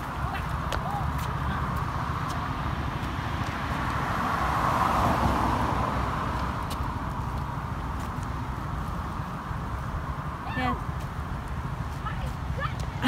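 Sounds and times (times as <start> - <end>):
car tyre noise: 0.0 - 13.0.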